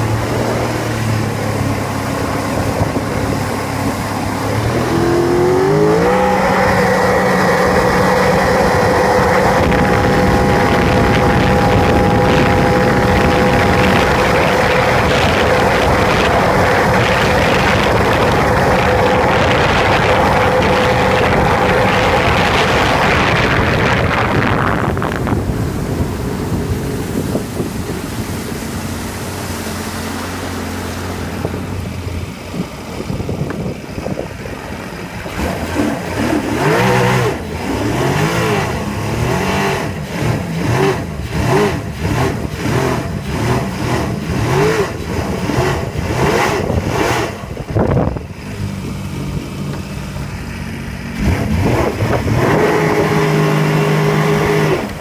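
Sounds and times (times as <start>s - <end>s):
wind noise: 0.0s - 50.2s, 51.1s - 55.0s
water splashing: 0.0s - 55.0s
watercraft engine running: 0.0s - 55.0s.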